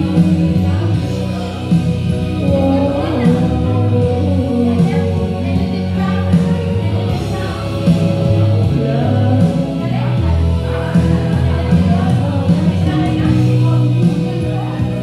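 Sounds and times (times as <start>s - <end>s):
karaoke backing music: 0.0s - 15.0s
person singing: 0.0s - 15.0s.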